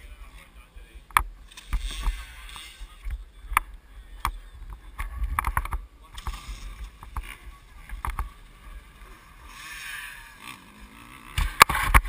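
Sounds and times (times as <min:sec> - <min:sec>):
muffled motorcycle engine rumble: 0:00.0 - 0:12.0.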